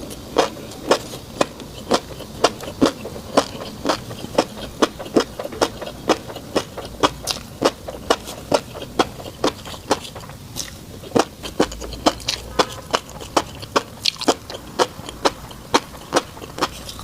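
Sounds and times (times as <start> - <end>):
chewing with crisp wet pops: 0.0 - 17.0.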